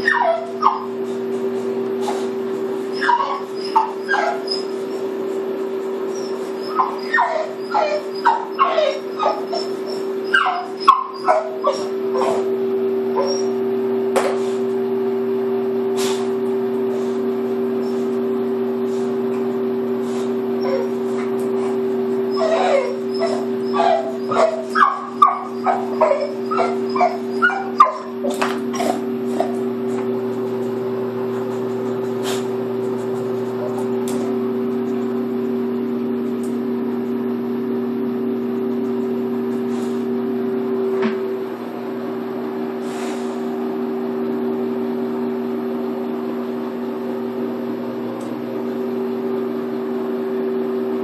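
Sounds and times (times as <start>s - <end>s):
steady low two-tone hum: 0.0s - 51.0s.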